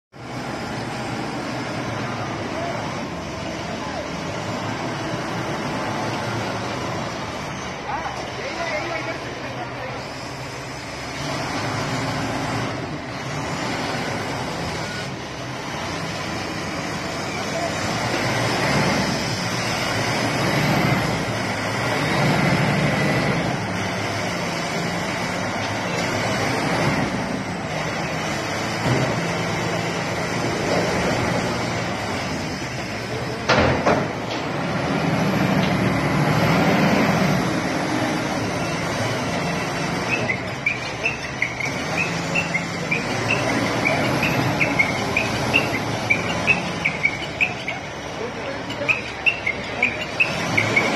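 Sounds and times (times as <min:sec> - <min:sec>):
diesel engine running: 0:00.1 - 0:50.9.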